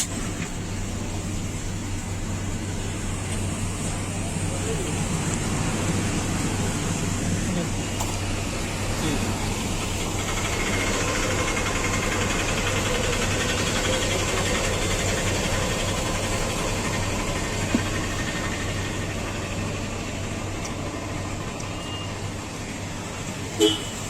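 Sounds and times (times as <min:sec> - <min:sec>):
motor drone: 0:00.0 - 0:21.8
street noise: 0:00.0 - 0:24.0.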